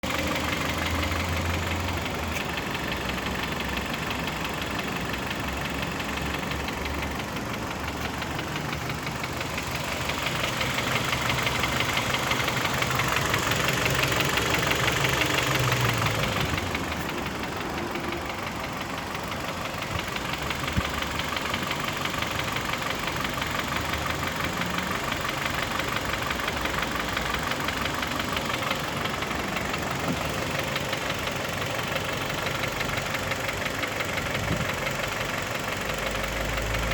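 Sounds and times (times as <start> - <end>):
car engine knocking: 0.0 - 36.9.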